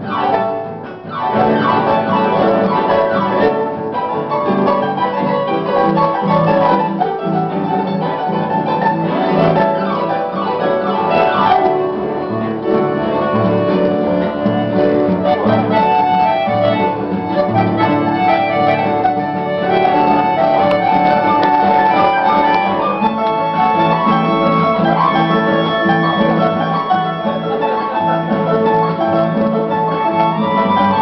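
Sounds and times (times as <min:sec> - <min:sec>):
accordion chords: 0:00.0 - 0:31.0
harp playing folk tune: 0:00.0 - 0:31.0.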